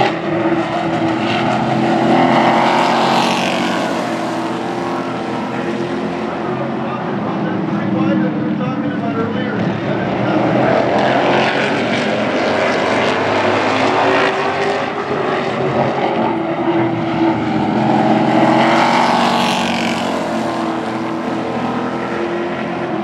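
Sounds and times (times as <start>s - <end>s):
race truck engines passing: 0.0s - 23.0s.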